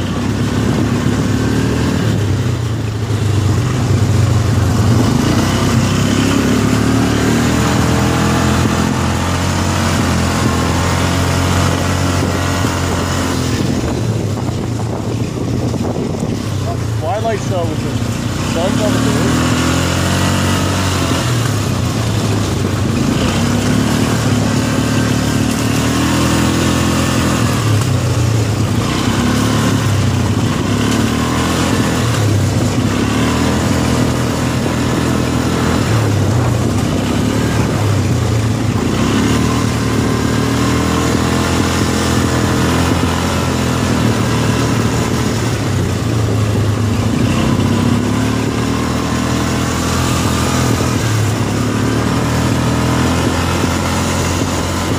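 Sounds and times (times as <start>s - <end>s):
atv engines revving: 0.0s - 54.9s.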